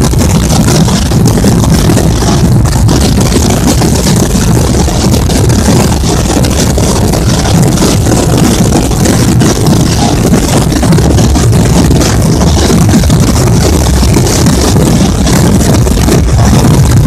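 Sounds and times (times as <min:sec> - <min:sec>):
massed drums rolling: 0:00.0 - 0:17.0.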